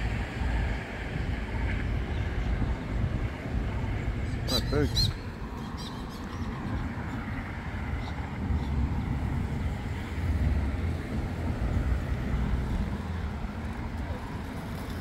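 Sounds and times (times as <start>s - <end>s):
outdoor rumble beside road: 0.0s - 15.0s.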